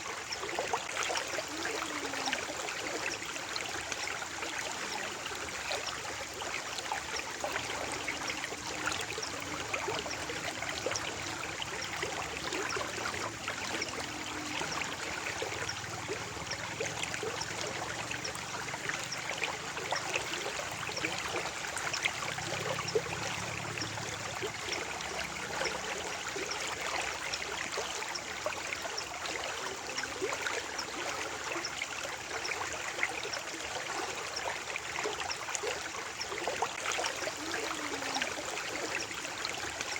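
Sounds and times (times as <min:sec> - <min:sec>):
small splashes and trickles: 0:00.0 - 0:39.9
stream water flowing: 0:00.0 - 0:39.9.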